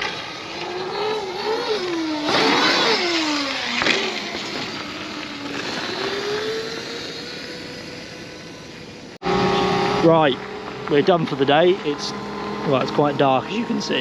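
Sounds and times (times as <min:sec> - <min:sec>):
electric motorbike motor whining: 0:00.0 - 0:14.0.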